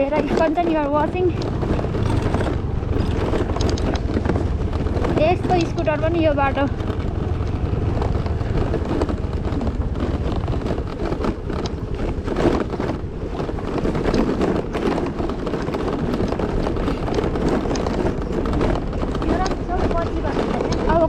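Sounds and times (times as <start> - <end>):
knocks and rattles over bumps: 0.0 - 21.0
scooter engine rumble: 0.0 - 21.0
wind buffeting microphone: 0.0 - 21.0.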